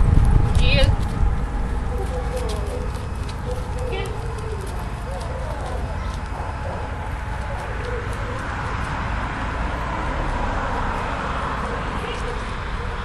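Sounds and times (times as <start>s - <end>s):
constant low rumble: 0.0s - 13.0s.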